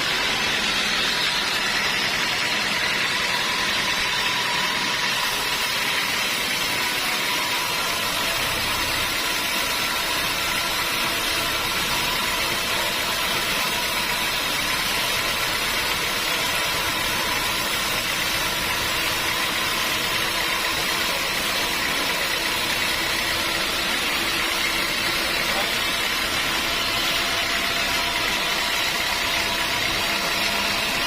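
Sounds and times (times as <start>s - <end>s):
sawmill machinery drone: 0.0s - 31.0s.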